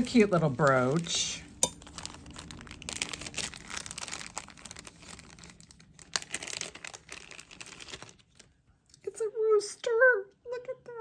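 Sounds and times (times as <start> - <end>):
wrapping crinkling: 0.0 - 8.9.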